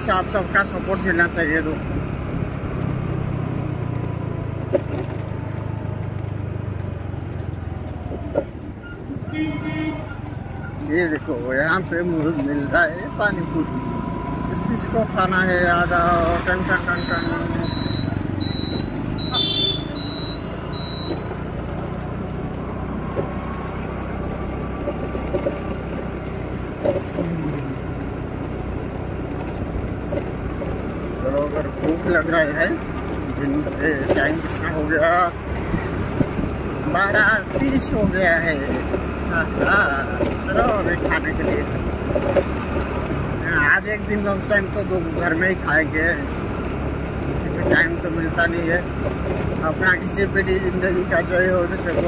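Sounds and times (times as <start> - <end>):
vehicle engine and road hum: 0.0 - 52.0.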